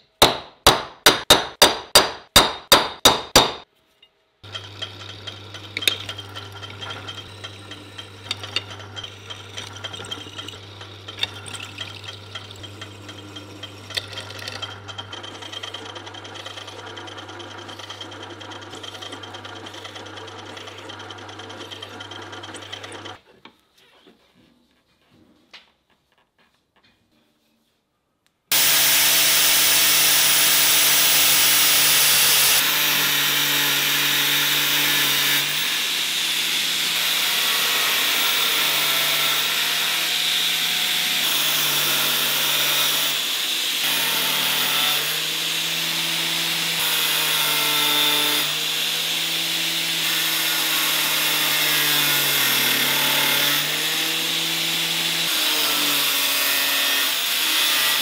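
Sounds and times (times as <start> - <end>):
angle grinder cutting steel: 4.4 - 23.2, 28.5 - 58.0.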